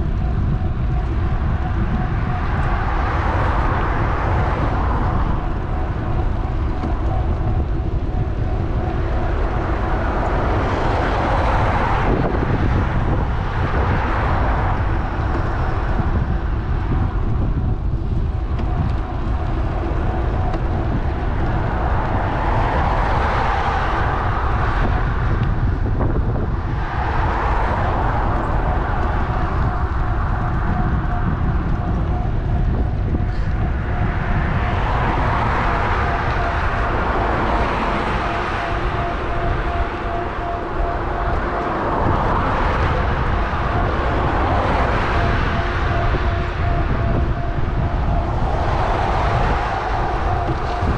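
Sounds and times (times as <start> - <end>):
road traffic: 0.0 - 50.9
wind rushing over microphone: 0.0 - 50.9.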